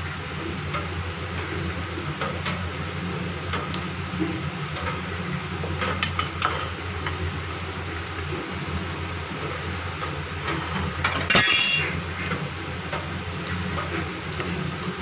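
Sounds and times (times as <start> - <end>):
food sizzling in oil: 0.0 - 15.0
steady low hum: 0.0 - 15.0.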